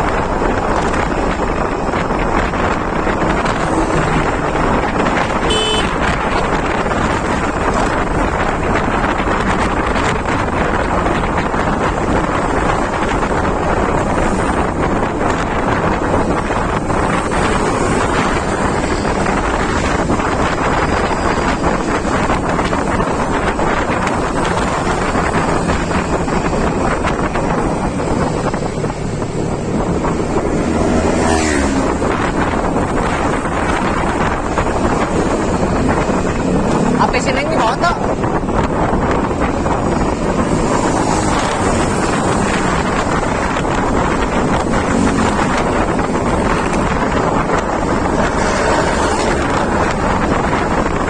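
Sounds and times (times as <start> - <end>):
wind noise on microphone: 0.0 - 51.0.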